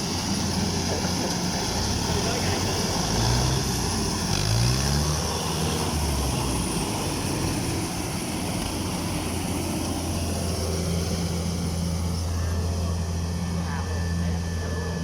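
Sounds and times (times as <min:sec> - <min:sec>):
combine harvester diesel engine running: 0:00.0 - 0:15.0.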